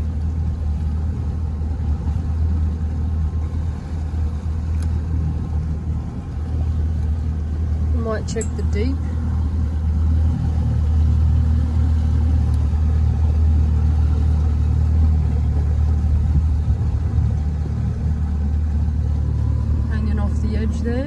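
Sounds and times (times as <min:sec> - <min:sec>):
outboard motor running: 0:00.0 - 0:21.0
water noise: 0:00.0 - 0:21.0
wind: 0:00.0 - 0:21.0.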